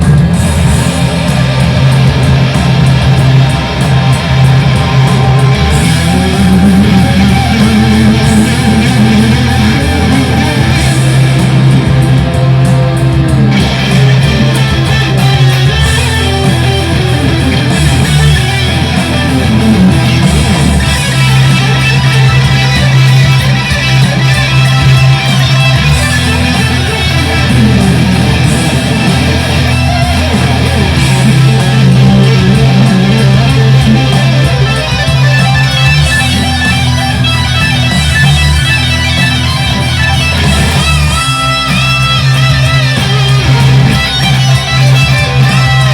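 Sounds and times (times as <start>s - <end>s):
electric guitar improvising: 0.0s - 45.9s.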